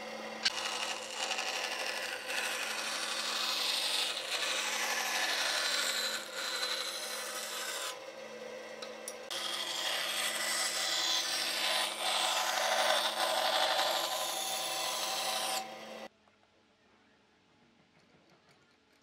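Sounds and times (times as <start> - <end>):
band saw blade rasping: 0.0 - 16.1.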